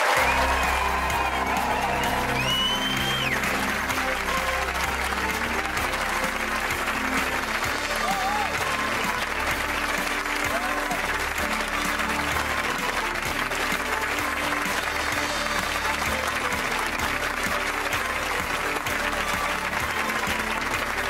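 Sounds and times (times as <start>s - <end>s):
audience applauding: 0.0s - 21.0s
music playing: 0.0s - 21.0s.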